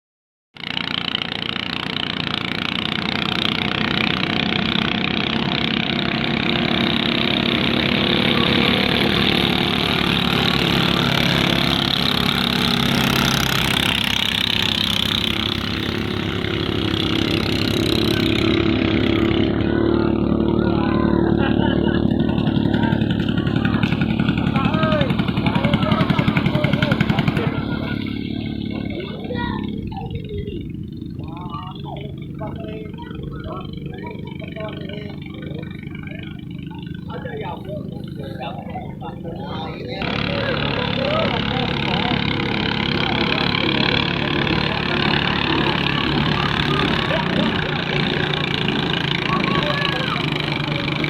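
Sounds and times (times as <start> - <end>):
boat engine running: 0.6 - 51.0.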